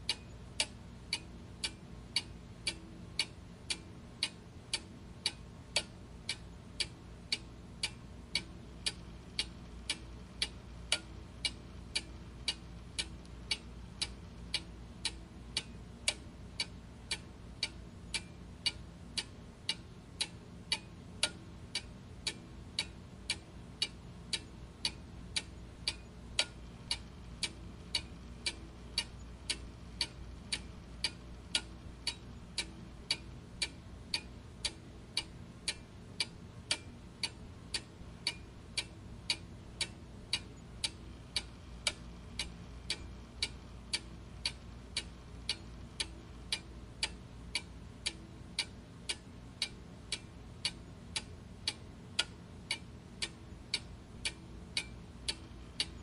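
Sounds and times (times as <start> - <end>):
clock ticking: 0.0 - 56.0
faint low hum: 0.0 - 56.0.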